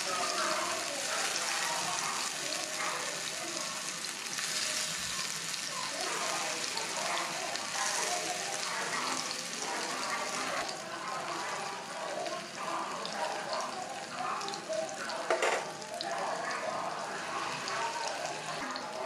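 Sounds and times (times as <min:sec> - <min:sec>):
patties sizzling in hot oil: 0:00.0 - 0:19.0.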